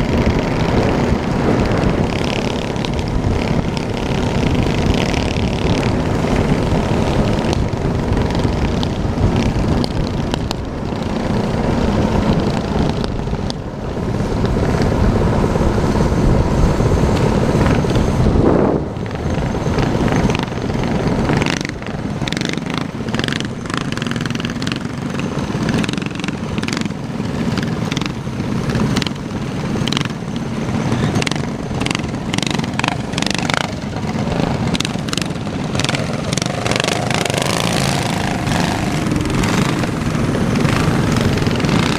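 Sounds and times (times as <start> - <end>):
engine crackles and knocks: 0.0 - 41.9
minibike engine running: 0.0 - 41.9.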